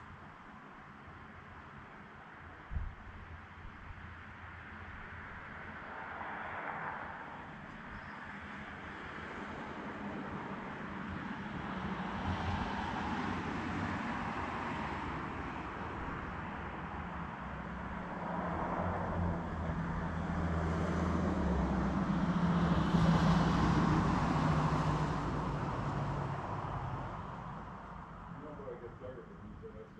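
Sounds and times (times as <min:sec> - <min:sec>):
road traffic passing: 0:03.4 - 0:29.9.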